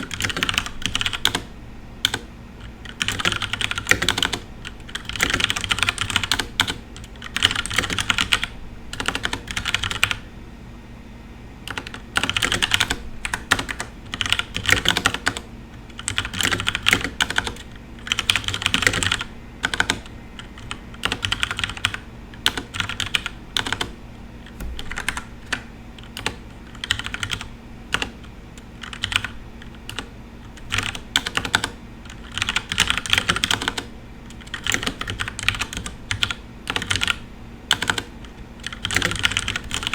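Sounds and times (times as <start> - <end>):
typing on mechanical keyboard: 0.0 - 10.2, 11.7 - 15.4, 16.0 - 23.9, 24.6 - 28.2, 28.8 - 39.9.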